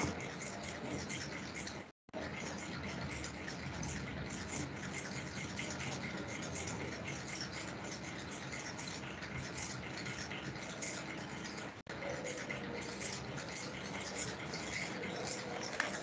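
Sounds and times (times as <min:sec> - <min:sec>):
faint irregular ticking: 0:00.0 - 0:16.0.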